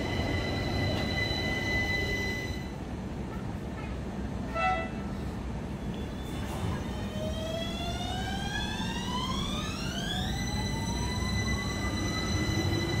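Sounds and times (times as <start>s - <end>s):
tram motor whine: 0.0s - 3.3s, 5.5s - 13.0s.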